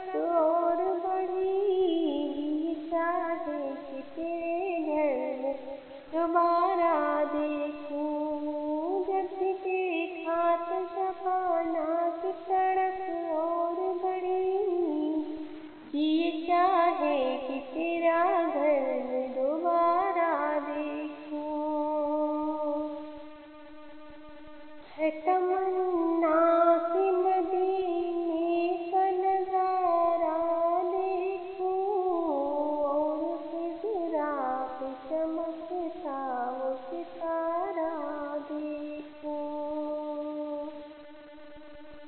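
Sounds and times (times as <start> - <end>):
woman singing solo: 0.0 - 42.0.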